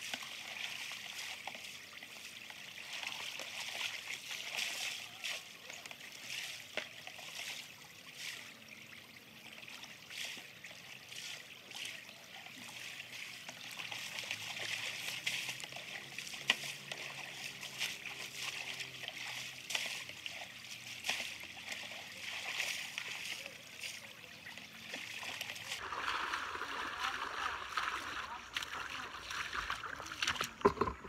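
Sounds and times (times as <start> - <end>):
river running over stones: 0.0 - 31.0
water splashing: 0.0 - 31.0.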